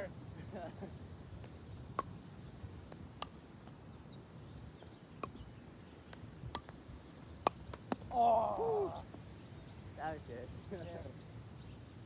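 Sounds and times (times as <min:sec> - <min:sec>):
faint low background noise: 0:00.0 - 0:12.0.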